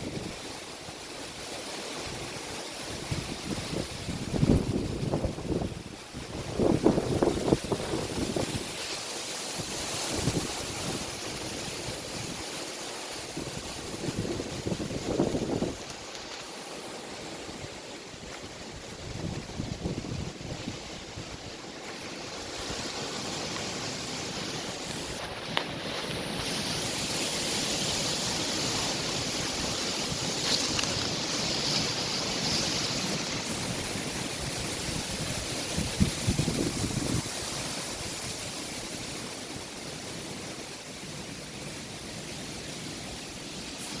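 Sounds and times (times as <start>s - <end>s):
strong wind gusting: 2.1s - 8.9s, 9.5s - 16.1s, 17.1s - 39.4s.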